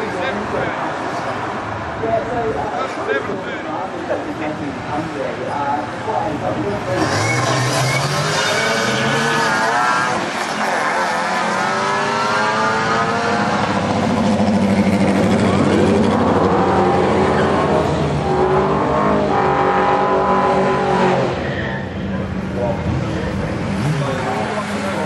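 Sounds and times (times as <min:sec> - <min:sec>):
car engines accelerating hard: 0:00.0 - 0:25.0.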